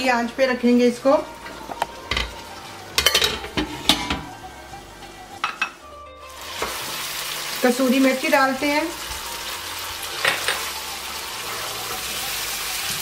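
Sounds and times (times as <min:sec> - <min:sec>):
low sizzle of cooking: 0:00.0 - 0:13.0.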